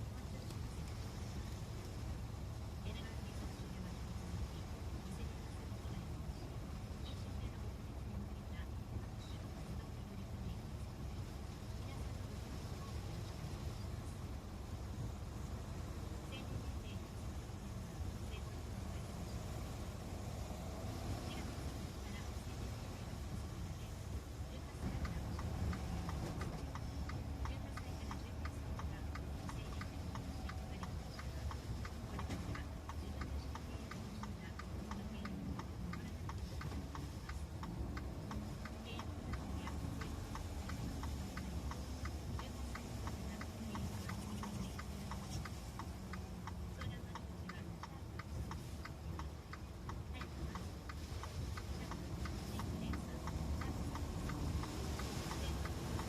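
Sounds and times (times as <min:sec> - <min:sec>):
engine and road rumble: 0:00.0 - 0:56.0
car indicator relay ticking: 0:00.1 - 0:56.0.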